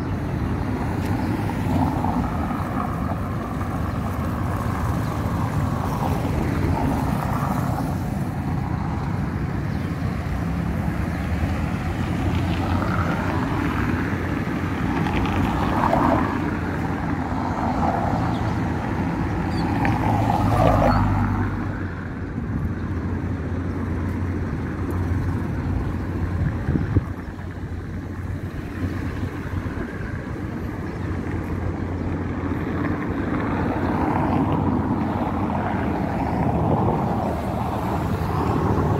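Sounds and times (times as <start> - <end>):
cars passing: 0.0 - 38.9
low traffic rumble: 0.0 - 38.9.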